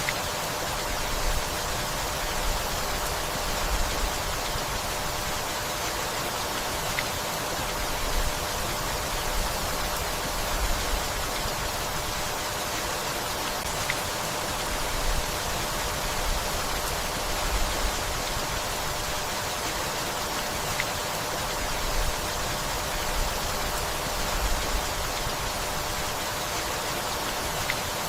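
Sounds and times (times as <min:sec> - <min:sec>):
steady rainfall hiss: 0:00.0 - 0:28.0.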